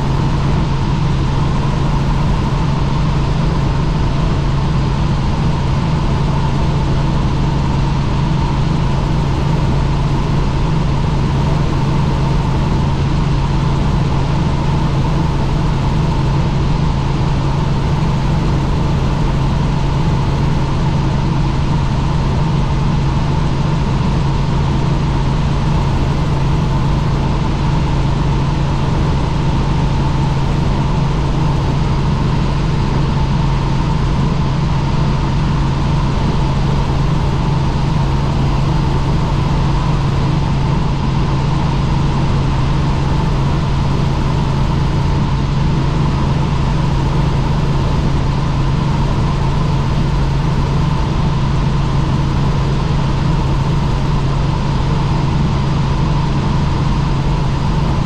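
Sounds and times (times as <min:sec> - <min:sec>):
helicopter drone: 0:00.0 - 0:58.0.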